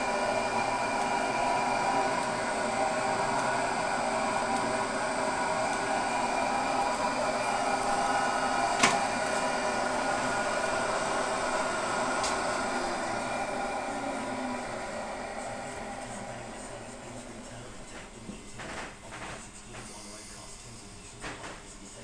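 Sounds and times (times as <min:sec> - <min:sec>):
metal lathe whirring: 0:00.0 - 0:21.2.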